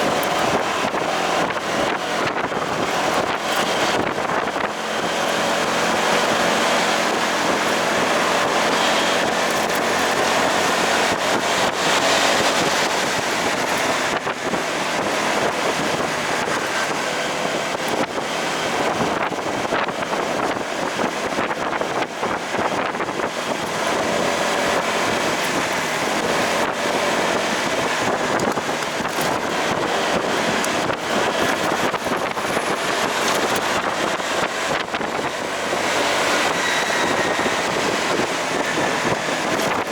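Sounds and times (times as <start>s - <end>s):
motorcycle engine: 0.0s - 39.9s
road noise: 0.0s - 39.9s
wind rushing over microphone: 0.0s - 39.9s.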